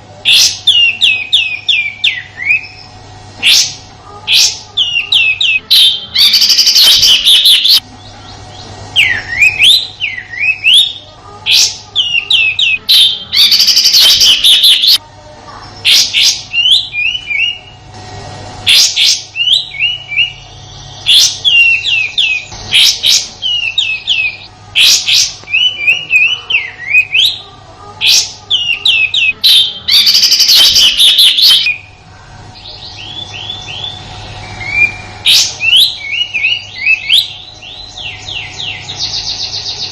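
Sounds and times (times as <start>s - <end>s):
songbird chirping and whistling: 0.2s - 15.0s, 15.6s - 17.9s, 18.7s - 32.0s, 32.6s - 39.9s
harsh rattling bird calls: 0.2s - 17.9s, 18.6s - 32.0s, 32.6s - 39.9s.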